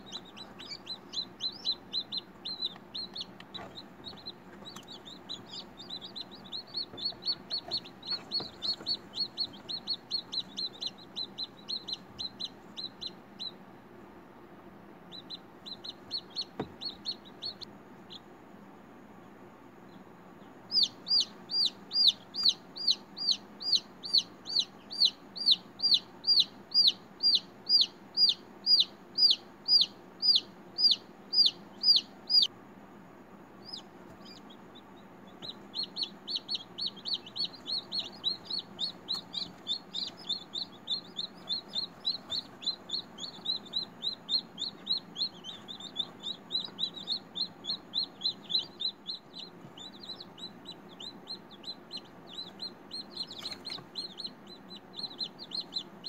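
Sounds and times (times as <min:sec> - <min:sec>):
chick peeping: 0:00.0 - 0:14.1, 0:14.9 - 0:56.0.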